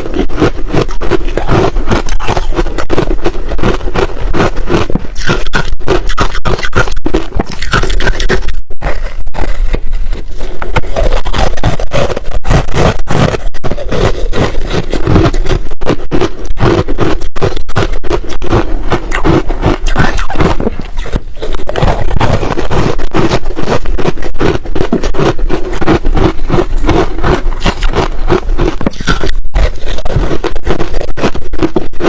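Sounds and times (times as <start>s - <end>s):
chewing crunchy ice: 0.0s - 32.0s.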